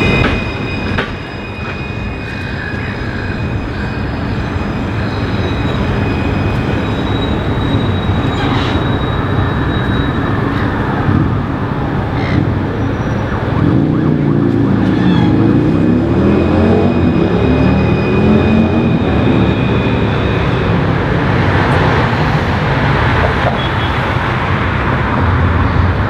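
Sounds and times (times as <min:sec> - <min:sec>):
tram motors whining: 0:00.0 - 0:23.9.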